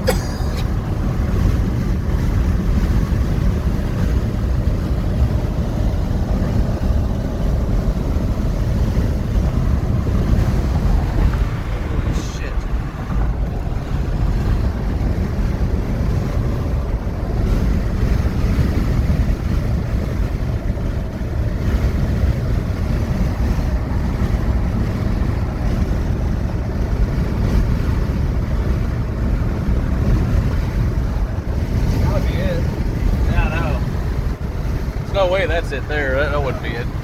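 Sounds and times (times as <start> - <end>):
vehicle road noise: 0.0 - 37.0
wind buffeting microphone: 0.0 - 37.0.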